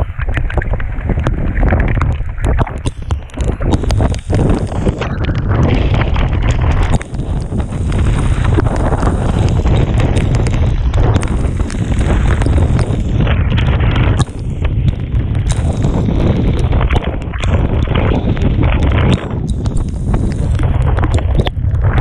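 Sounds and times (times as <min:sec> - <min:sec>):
rain ticking on microphone: 0:00.0 - 0:22.0
wind buffeting microphone: 0:00.0 - 0:22.0.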